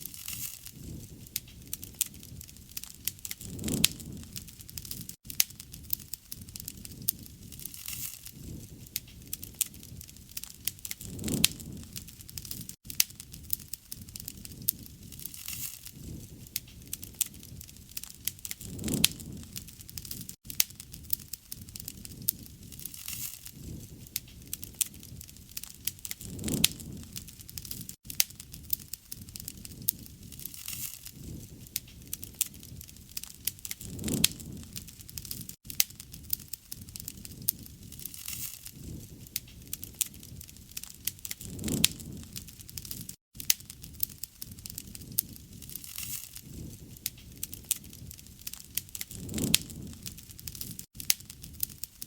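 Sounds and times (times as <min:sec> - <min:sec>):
low rush of flame: 0:00.0 - 0:52.0
wood fire crackling: 0:00.0 - 0:52.0.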